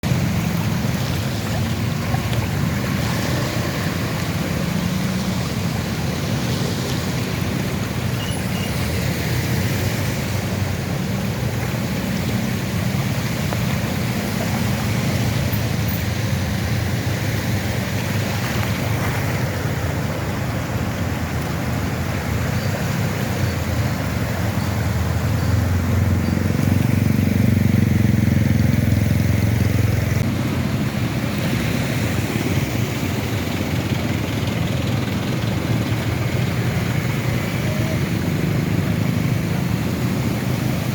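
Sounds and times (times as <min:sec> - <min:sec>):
vehicle engines running: 0:00.0 - 0:40.9
water washing: 0:00.0 - 0:40.9.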